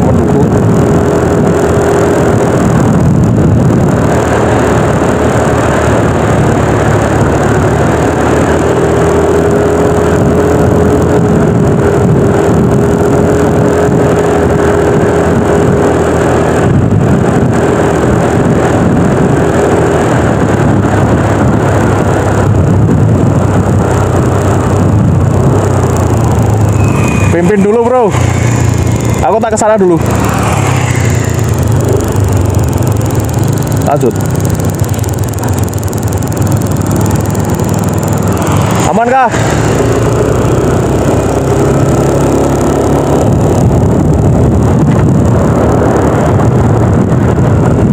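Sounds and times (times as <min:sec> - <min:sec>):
scooter engine running: 0:00.0 - 0:47.9
wind noise on microphone: 0:00.0 - 0:47.9.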